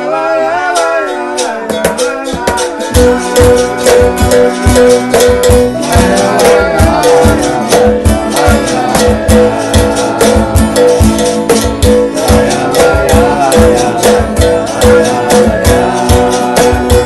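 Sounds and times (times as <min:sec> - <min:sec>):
strummed acoustic guitar: 0:00.0 - 0:17.0
cajon bass strokes: 0:01.2 - 0:17.0.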